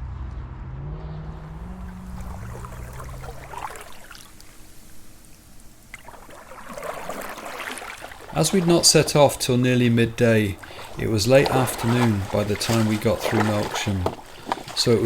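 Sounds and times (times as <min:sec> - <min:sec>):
water splashing around canoe: 0:01.7 - 0:15.0
paddles dipping in water: 0:01.8 - 0:15.0.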